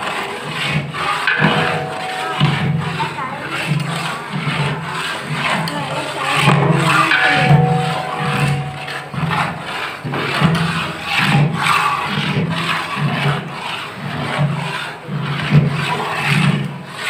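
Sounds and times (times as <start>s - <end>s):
metal ladle scraping cooking pot: 0.0s - 17.0s.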